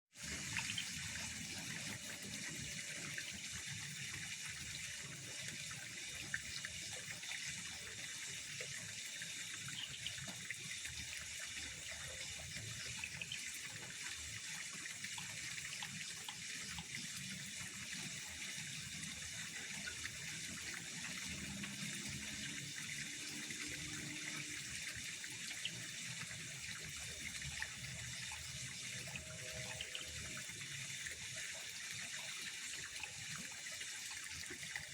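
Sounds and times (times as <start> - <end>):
pond water trickling: 0.1 - 34.9.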